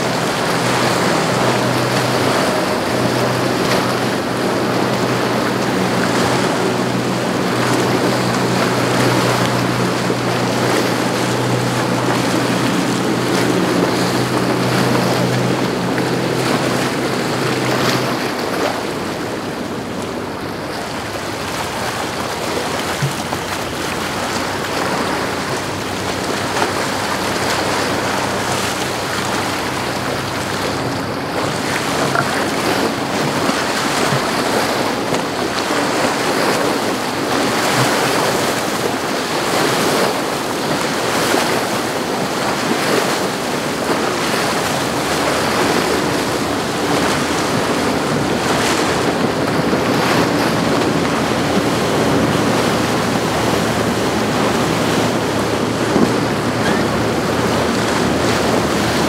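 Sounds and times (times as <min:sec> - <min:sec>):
outboard engines humming: 0:00.0 - 0:59.0
waves and churning surf: 0:00.0 - 0:59.0
wind buffeting microphone: 0:00.0 - 0:59.0.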